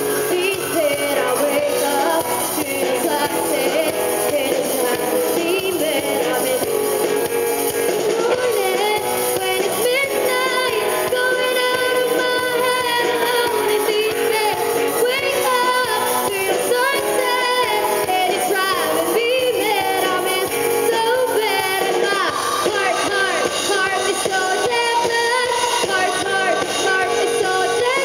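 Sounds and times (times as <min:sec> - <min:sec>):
gliding melodic lead line: 0:00.0 - 0:28.0
rock band playing live: 0:00.0 - 0:28.0.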